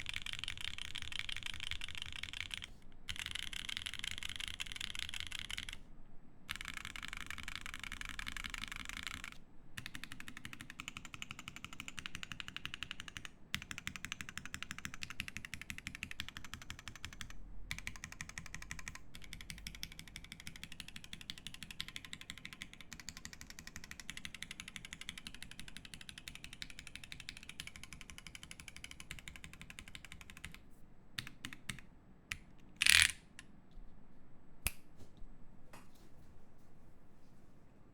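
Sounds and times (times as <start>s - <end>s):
typing on mechanical keyboard: 0.0s - 5.8s, 6.5s - 30.6s, 31.2s - 33.2s.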